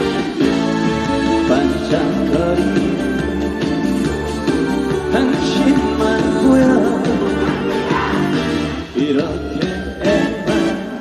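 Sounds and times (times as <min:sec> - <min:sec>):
live band music through speakers: 0:00.0 - 0:11.0.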